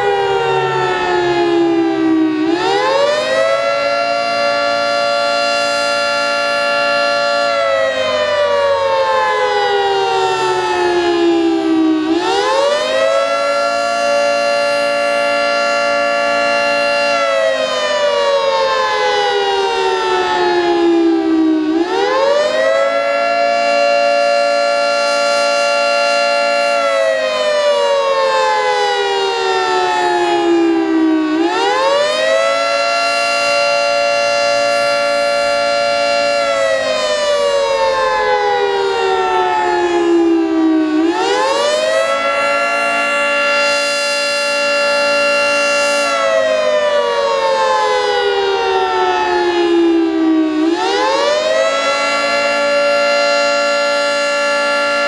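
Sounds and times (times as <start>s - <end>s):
outdoor warning siren wailing: 0.0s - 55.0s.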